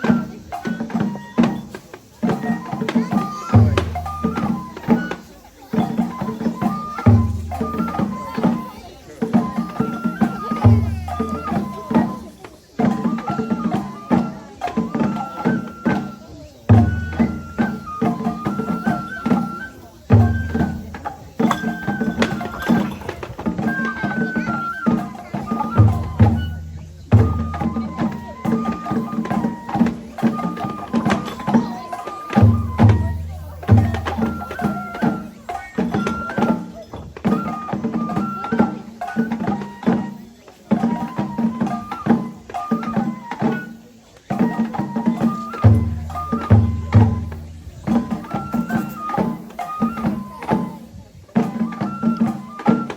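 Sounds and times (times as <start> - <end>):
drum strokes: 0.0 - 52.9
flute melody: 0.0 - 52.9.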